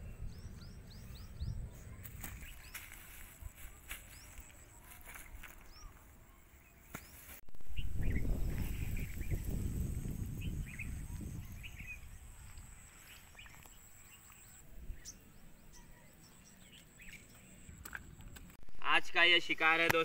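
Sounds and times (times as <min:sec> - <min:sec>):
small birds chirping: 0:00.0 - 0:18.6.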